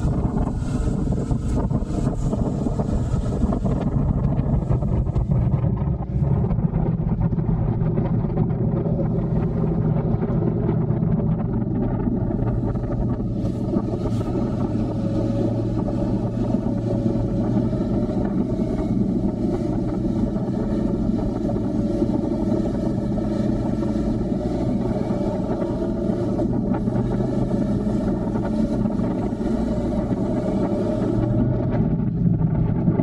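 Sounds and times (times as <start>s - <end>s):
motorcycle engine running: 0.0s - 33.0s
road and wind noise: 0.0s - 33.0s.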